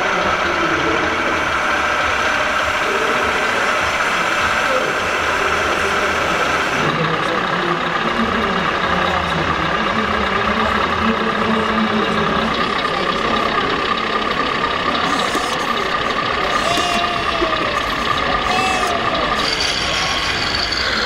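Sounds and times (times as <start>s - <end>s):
busy exhibition hall din: 0.0s - 21.0s
electronic diesel engine sounds idling: 0.0s - 21.0s.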